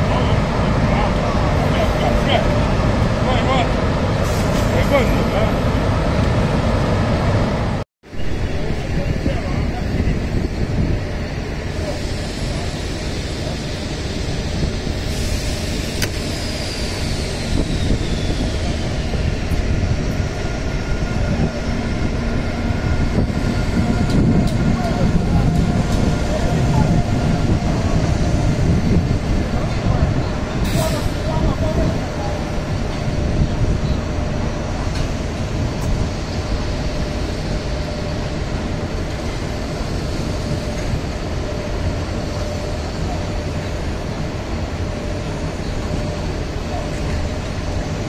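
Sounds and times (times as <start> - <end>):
train running rumble: 0.0 - 48.0.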